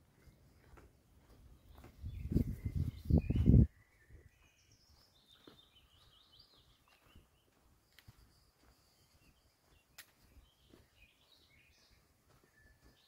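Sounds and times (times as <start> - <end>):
birds chirping and trilling: 0.2 - 13.0.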